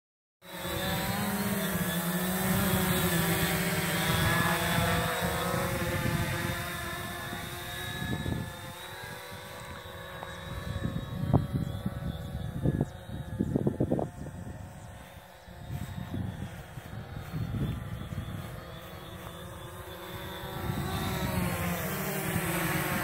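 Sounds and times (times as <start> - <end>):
drone motors humming: 0.4 - 23.0.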